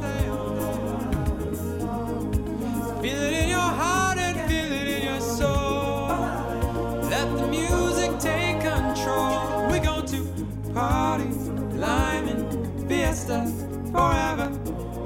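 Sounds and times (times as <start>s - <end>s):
person singing: 0.0s - 15.0s
steady beat: 0.0s - 15.0s.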